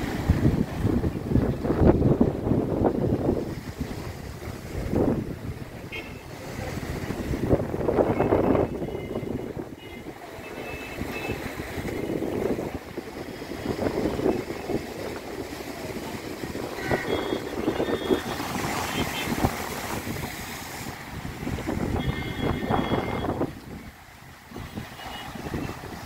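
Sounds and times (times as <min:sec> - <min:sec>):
wind buffeting microphone: 0:00.0 - 0:09.8, 0:11.0 - 0:26.0.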